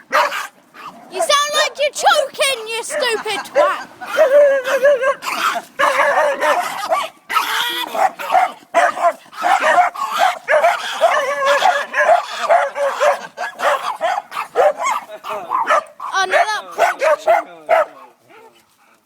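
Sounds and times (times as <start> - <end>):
dogs barking and whining: 0.0 - 18.7.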